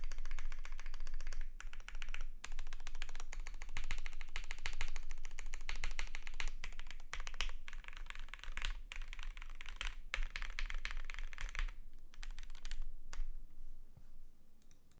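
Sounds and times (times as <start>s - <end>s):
mechanical keyboard typing: 0.0s - 13.3s.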